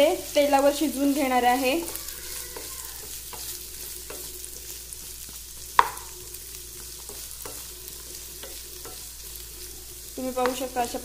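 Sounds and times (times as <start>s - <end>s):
onions sizzling in oil: 0.0s - 11.0s
spatula scraping and tapping pan: 0.0s - 11.0s.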